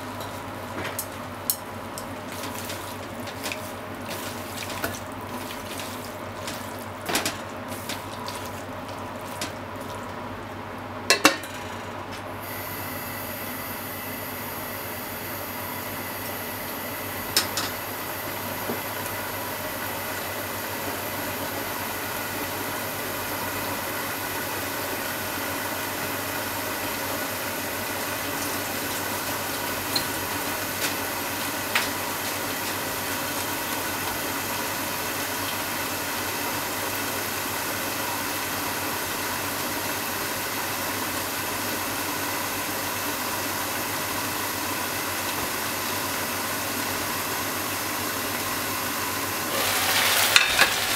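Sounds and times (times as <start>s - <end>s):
stir-fry sizzling in a pan: 0.0s - 11.3s, 12.2s - 50.9s.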